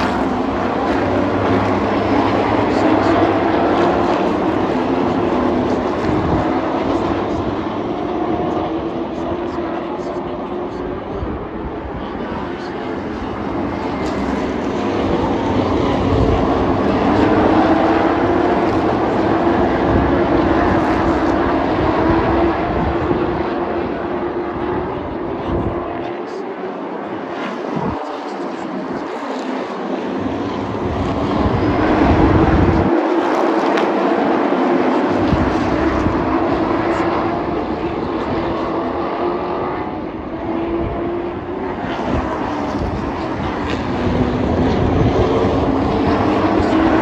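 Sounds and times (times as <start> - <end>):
race truck engines droning: 0.0 - 47.0.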